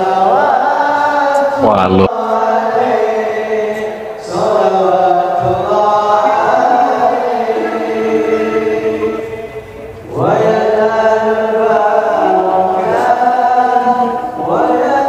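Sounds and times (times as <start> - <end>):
men singing devotional song: 0.0 - 15.0.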